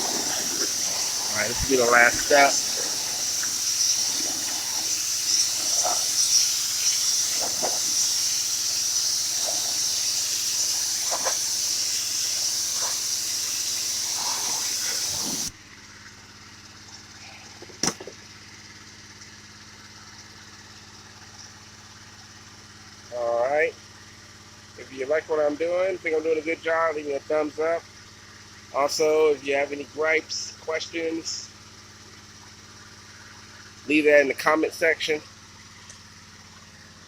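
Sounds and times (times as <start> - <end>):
pressure washer spraying wood: 0.0 - 23.1, 27.9 - 37.0
pressure washer motor running: 0.0 - 37.0.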